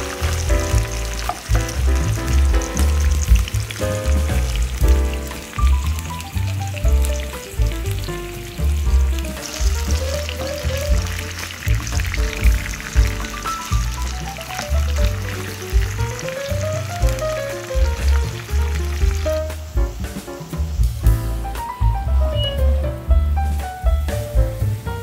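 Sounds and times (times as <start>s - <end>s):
pepper strips sizzling in oil: 0.0s - 22.6s
music with pulsing bass: 0.0s - 25.0s.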